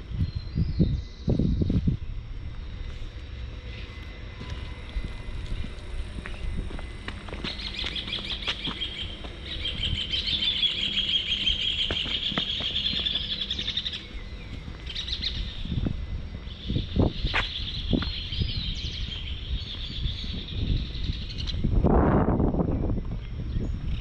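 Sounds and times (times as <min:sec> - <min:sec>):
birds chirping: 0:00.0 - 0:21.7
low background rumble: 0:00.0 - 0:24.0.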